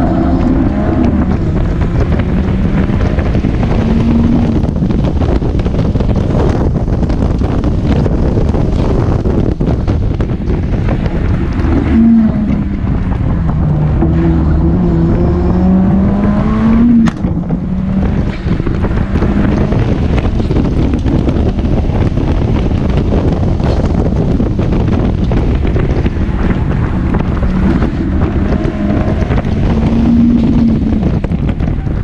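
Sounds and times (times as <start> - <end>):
car engine under full throttle: 0.0 - 32.0
wind rushing: 0.0 - 32.0.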